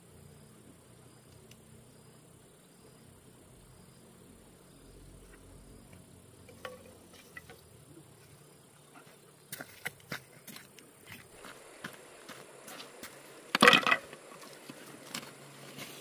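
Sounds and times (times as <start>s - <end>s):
faint insect trilling: 0.0s - 15.6s.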